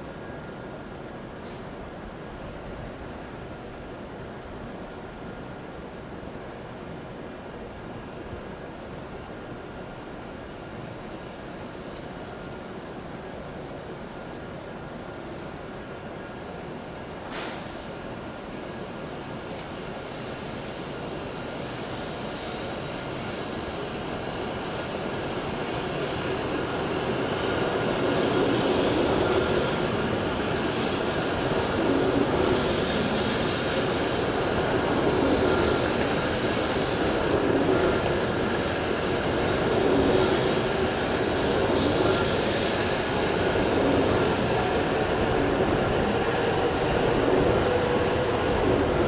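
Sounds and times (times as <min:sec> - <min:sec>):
high-speed train running noise: 0:00.0 - 0:49.0.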